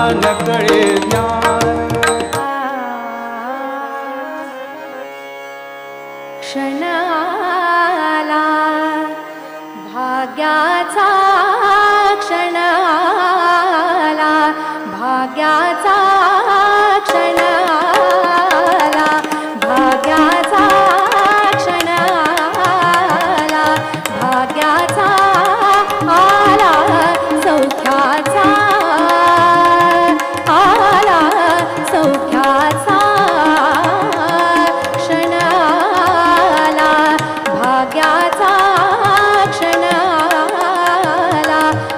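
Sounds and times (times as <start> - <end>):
person singing: 0.0 - 5.2, 6.5 - 41.9
tabla: 0.0 - 5.2, 6.7 - 41.9
harmonium: 0.0 - 41.9.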